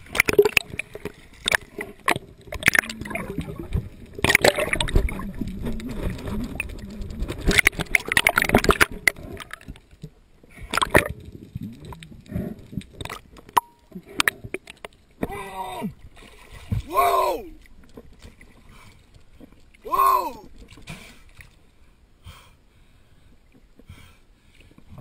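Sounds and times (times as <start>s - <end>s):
water sloshing and gurgling: 0.0s - 22.2s.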